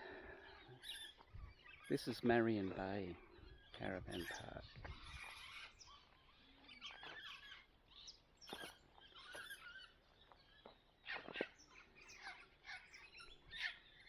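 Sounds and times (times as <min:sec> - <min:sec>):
bird chirps and calls: 0:00.0 - 0:14.0.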